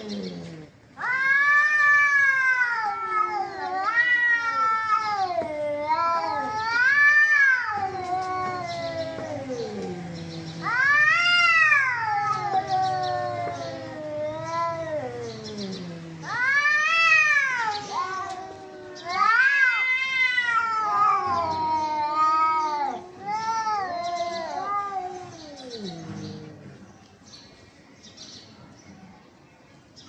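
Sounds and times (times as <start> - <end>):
cats yowling: 0.0 - 26.8.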